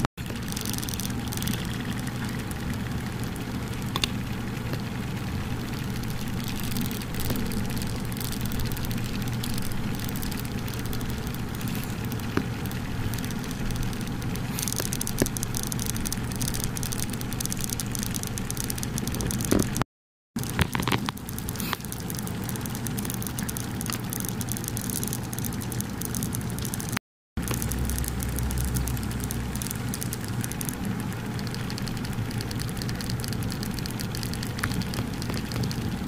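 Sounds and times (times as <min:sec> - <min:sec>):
low hum: 0:00.0 - 0:19.8, 0:21.2 - 0:36.0
termites rustling crackle: 0:00.2 - 0:19.8, 0:20.4 - 0:36.0
faint clicks: 0:05.6 - 0:19.8, 0:20.4 - 0:36.0.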